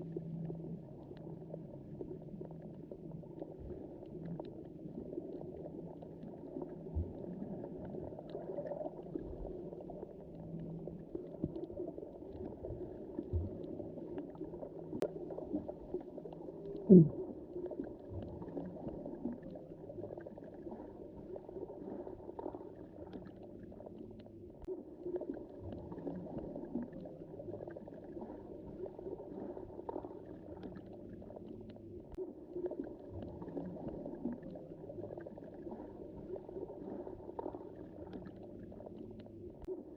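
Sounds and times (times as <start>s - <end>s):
muffled underwater water wash: 0.0s - 39.9s.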